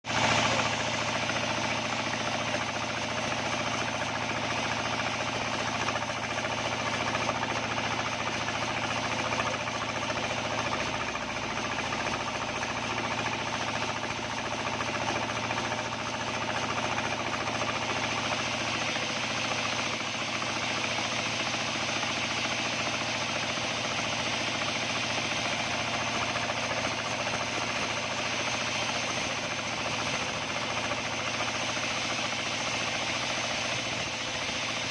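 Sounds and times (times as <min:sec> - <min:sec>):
band sawmill droning: 0:00.1 - 0:34.9.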